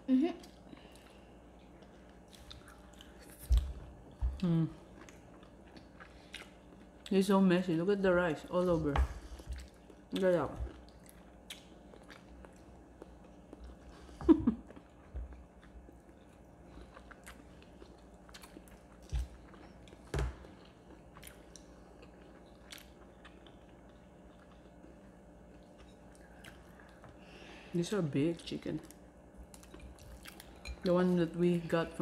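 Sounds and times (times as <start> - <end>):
chewing crispy chicken: 0.4 - 7.2, 9.3 - 27.2, 28.8 - 30.6.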